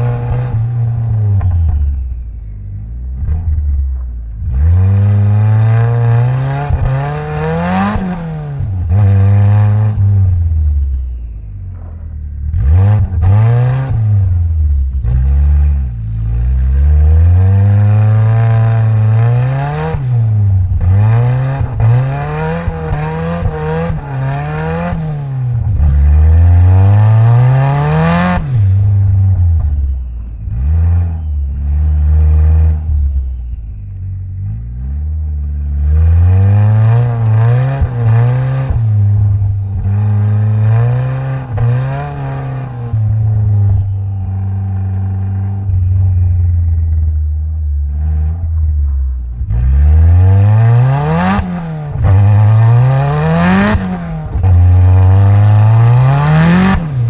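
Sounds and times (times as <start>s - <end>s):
car engine revving: 0.0s - 57.0s
thin turbo whine: 0.0s - 57.0s.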